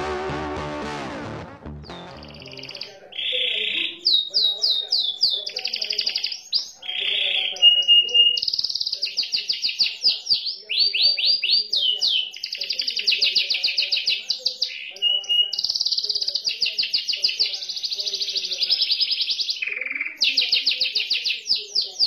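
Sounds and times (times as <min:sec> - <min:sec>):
canary singing: 0:01.8 - 0:22.0.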